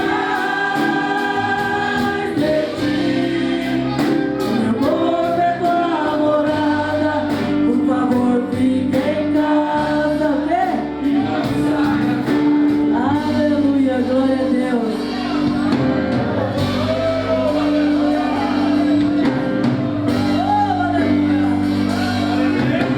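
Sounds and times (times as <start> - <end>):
gospel singing with band: 0.0 - 22.9.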